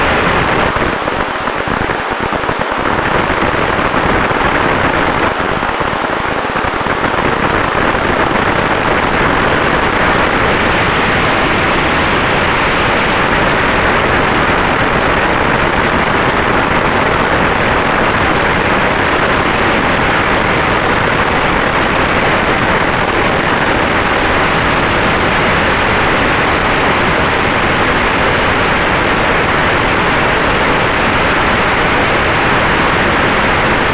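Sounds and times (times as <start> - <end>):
airplane propeller and rushing air: 0.0 - 33.9.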